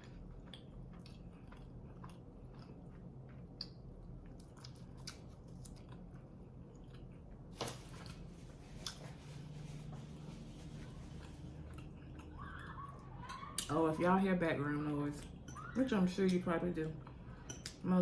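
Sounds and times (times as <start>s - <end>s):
person chewing food: 0.0s - 13.7s, 17.0s - 17.8s
low steady hum: 0.0s - 18.0s.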